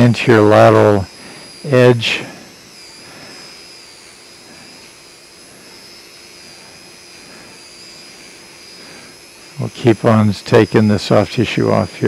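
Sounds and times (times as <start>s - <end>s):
surgical equipment hiss and whine: 0.0s - 12.0s.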